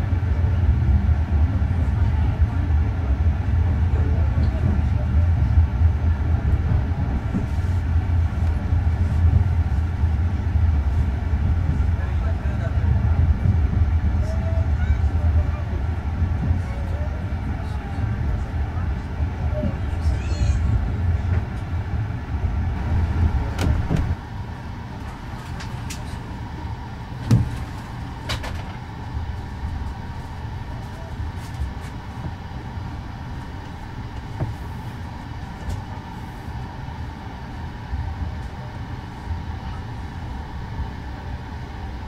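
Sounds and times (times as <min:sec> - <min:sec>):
train interior rumble: 0:00.0 - 0:42.0.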